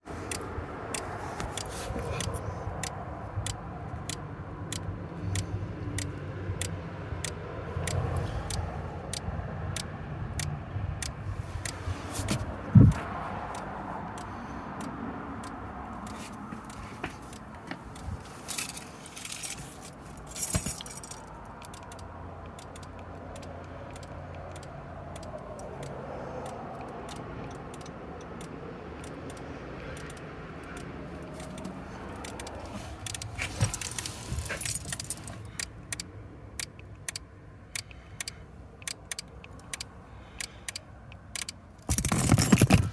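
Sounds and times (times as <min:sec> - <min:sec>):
car clicking: 0:00.2 - 0:42.9.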